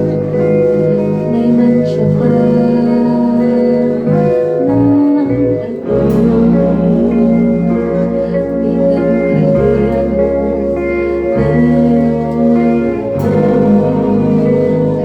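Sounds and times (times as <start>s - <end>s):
live band with electric guitars: 0.0s - 15.0s.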